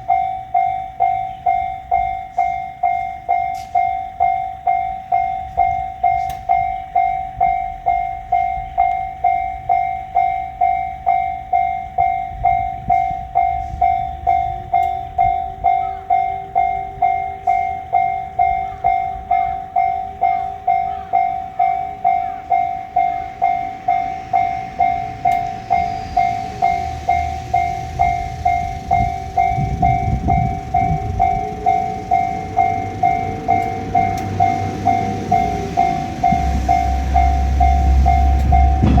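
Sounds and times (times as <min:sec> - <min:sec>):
diesel railcar rumbling: 0:00.0 - 0:39.0
level-crossing alarm bell clanging: 0:00.0 - 0:39.0.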